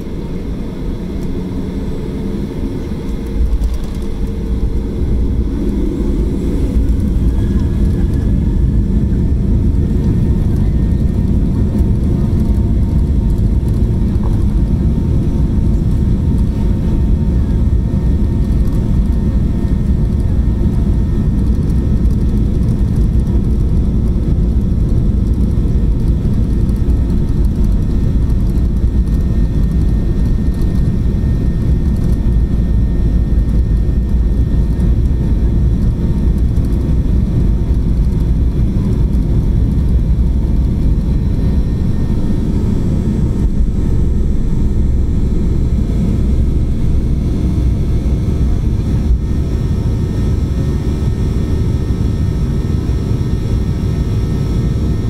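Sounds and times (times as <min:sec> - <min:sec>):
faint steady whining tones: 0:00.0 - 0:55.0
jet cabin engine rumble: 0:00.0 - 0:55.0.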